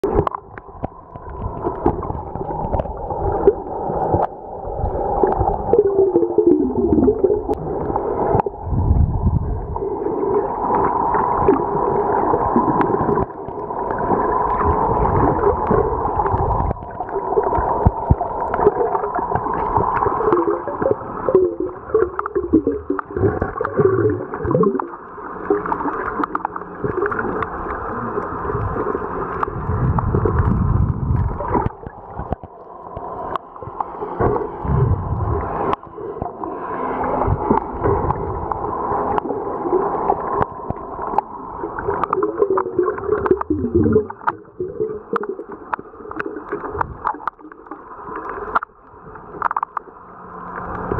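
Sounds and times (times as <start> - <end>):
underwater water gurgling: 0.0 - 50.9.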